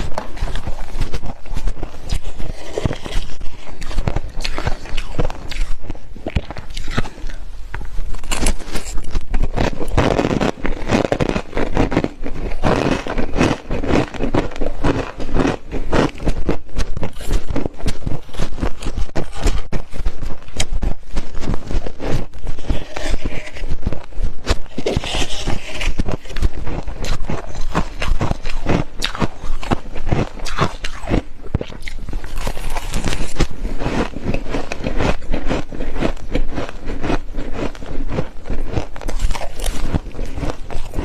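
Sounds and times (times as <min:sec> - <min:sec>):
frost crunching: 0:00.0 - 0:41.0.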